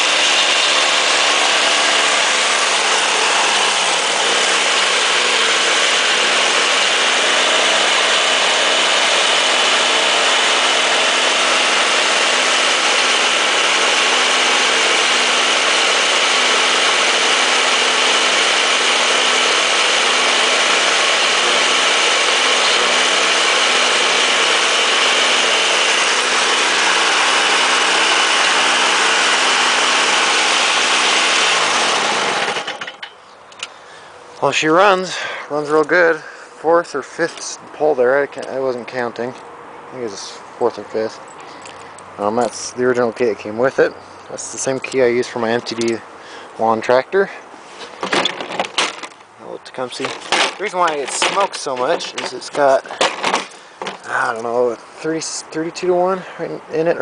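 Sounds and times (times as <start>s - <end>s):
snowblower engine running: 0.0s - 39.4s, 40.0s - 57.0s.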